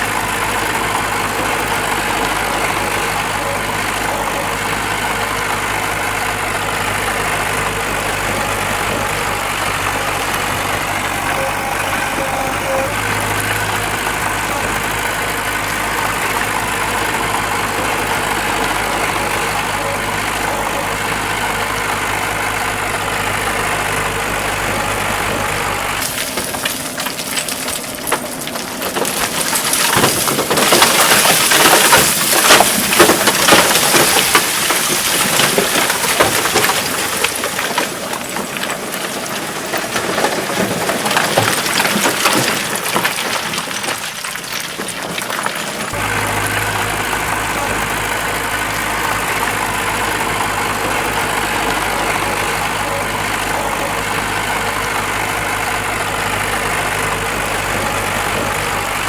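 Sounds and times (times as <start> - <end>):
diesel engine idling: 0.0 - 59.0
rocks tumbling from dump truck: 0.0 - 59.0.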